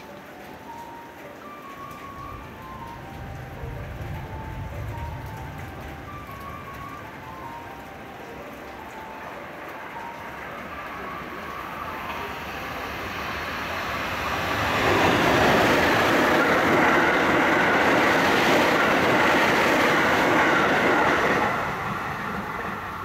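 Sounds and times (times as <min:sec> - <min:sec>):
electric train passing at speed: 0:00.0 - 0:23.0.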